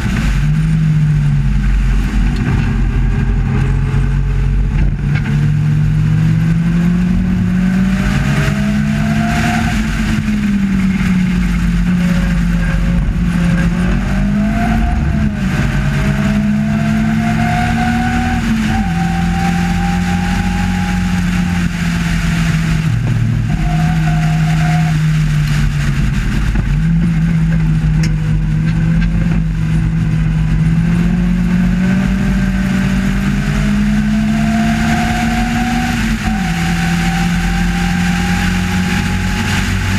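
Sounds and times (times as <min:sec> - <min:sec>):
racing car engine revving: 0:00.0 - 0:39.9
wind and road noise: 0:00.0 - 0:39.9.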